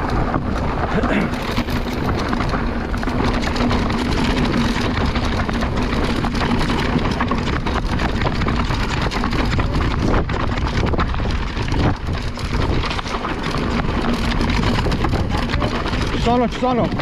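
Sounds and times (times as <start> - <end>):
bike knocking and rattling: 0.0 - 17.0
bike tyres on dirt and rock: 0.0 - 17.0
wind noise on microphone: 0.0 - 17.0.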